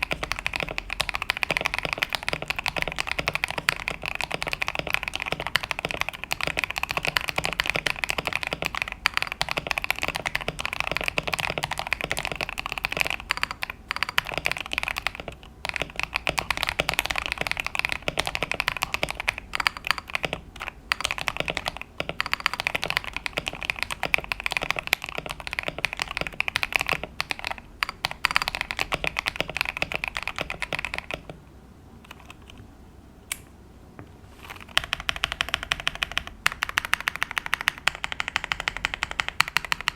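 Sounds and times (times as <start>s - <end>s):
mechanical keyboard typing: 0.0s - 31.4s, 32.0s - 32.6s, 34.5s - 39.9s.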